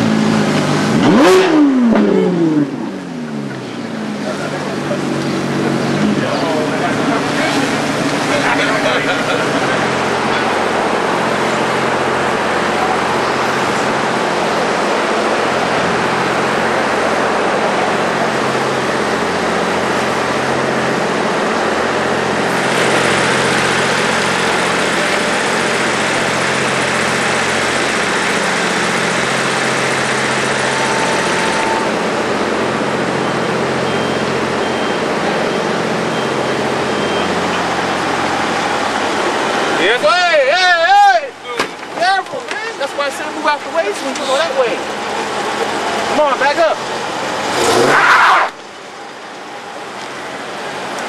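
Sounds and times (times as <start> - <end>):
car engines idling: 0.0 - 51.0
noisy street background: 0.0 - 51.0.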